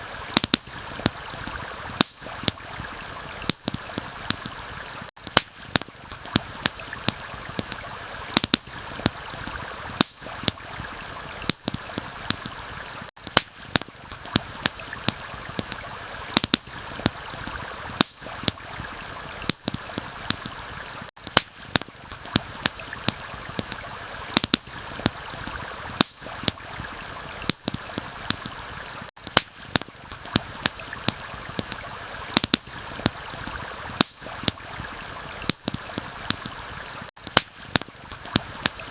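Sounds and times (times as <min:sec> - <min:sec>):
stream rushing: 0:00.0 - 0:37.1
campfire crackling: 0:00.0 - 0:38.9.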